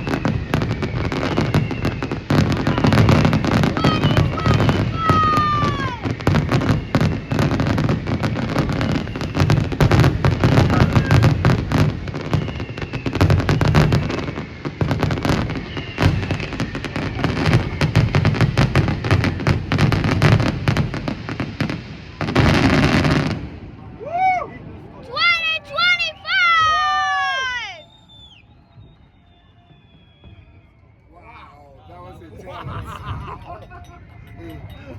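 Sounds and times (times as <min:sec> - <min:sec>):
fireworks crackling and banging: 0:00.0 - 0:23.8, 0:24.6 - 0:31.1, 0:32.0 - 0:34.9
whistling firework: 0:00.0 - 0:31.2, 0:32.2 - 0:34.9.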